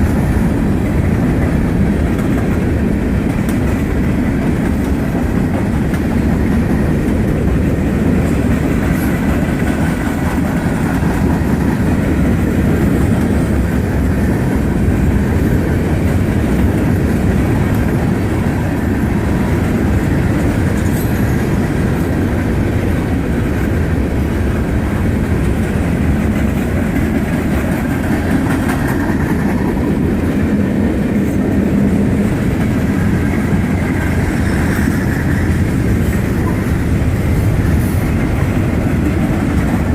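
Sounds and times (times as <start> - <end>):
freight train wheels rumbling: 0.0 - 39.9
train wheels clickety-clack: 0.0 - 39.9.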